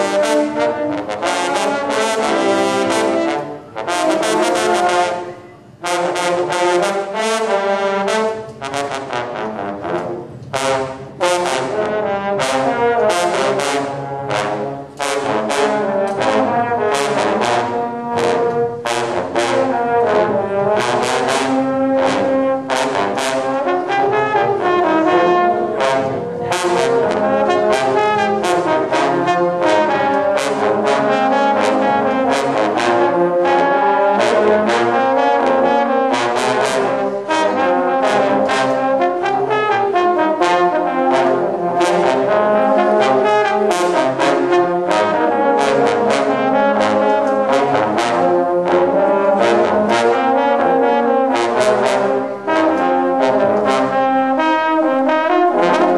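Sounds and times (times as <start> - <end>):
baritone horns playing fanfare: 0.0 - 55.9.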